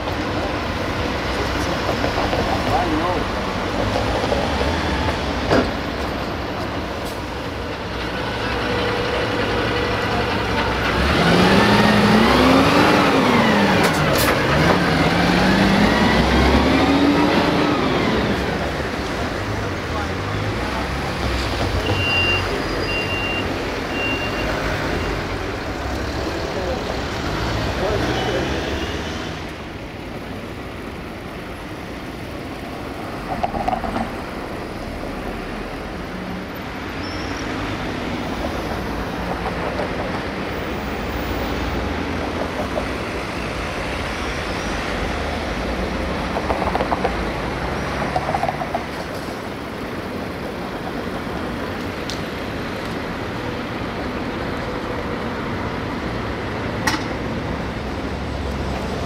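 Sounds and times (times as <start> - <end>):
tram and road vehicles passing: 0.0 - 59.0.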